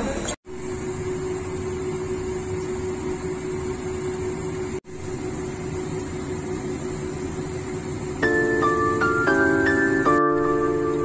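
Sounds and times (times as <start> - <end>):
exhaust fan humming: 0.0 - 11.0.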